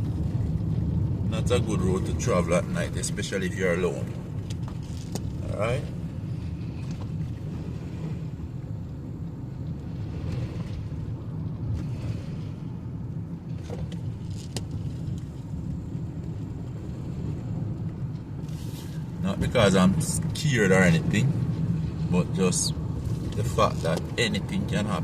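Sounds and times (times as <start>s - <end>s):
engine and tyres rumbling: 0.0s - 25.0s.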